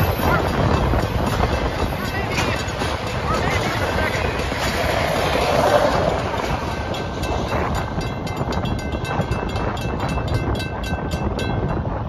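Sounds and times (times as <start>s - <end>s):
freight train rumbling past: 0.0s - 12.0s
railroad crossing bell ringing: 0.0s - 12.0s.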